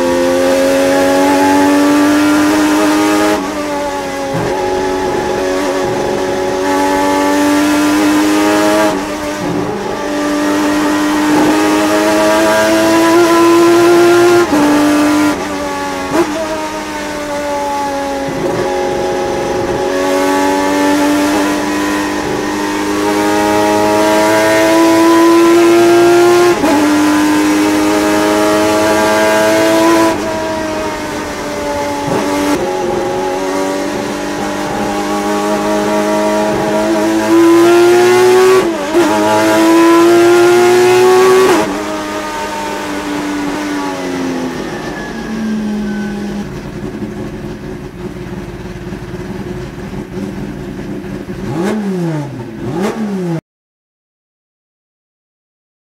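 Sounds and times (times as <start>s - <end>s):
race car engine at full throttle: 0.0s - 53.4s.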